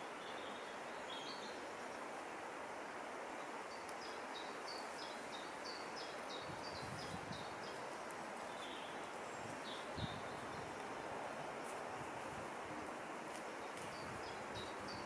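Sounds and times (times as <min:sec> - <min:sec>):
rushing woodland background: 0:00.0 - 0:15.0.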